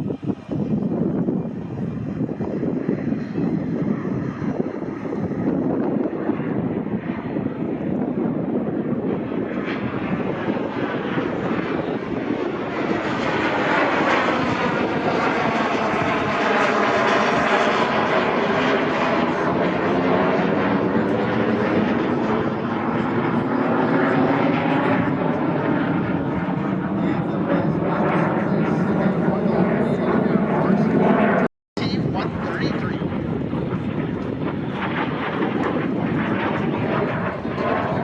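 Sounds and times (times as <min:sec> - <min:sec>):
jet aircraft flyby: 0:00.0 - 0:38.0
phasing whoosh of passing aircraft: 0:00.0 - 0:38.0.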